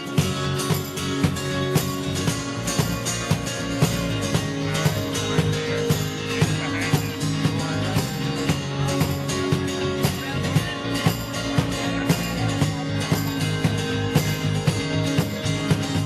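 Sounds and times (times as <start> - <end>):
drum kit steady beat: 0.0 - 16.0
electric guitar playing: 0.0 - 16.0.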